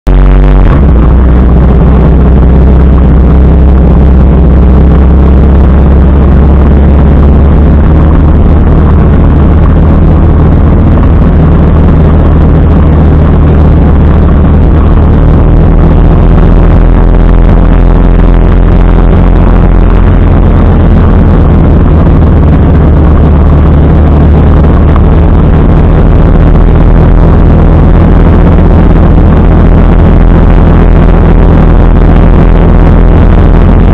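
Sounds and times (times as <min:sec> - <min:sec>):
motorcycle engine running: 0:00.0 - 0:33.9
rushing wind noise: 0:00.0 - 0:33.9.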